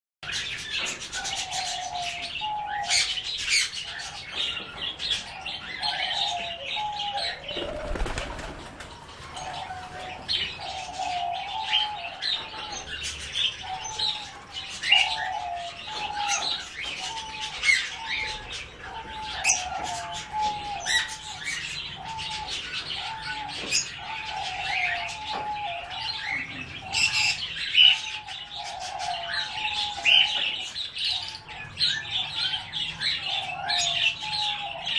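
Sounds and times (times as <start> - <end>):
birds chirping: 0.2 - 34.9.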